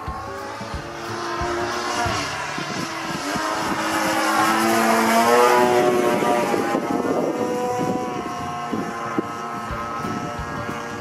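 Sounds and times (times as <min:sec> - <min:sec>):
model airplane engine passing: 0:00.0 - 0:11.0.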